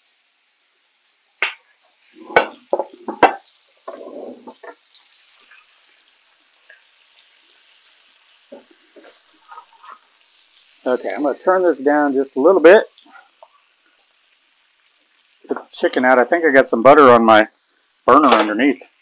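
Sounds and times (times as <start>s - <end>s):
chicken sizzling in butter: 0.0s - 19.0s.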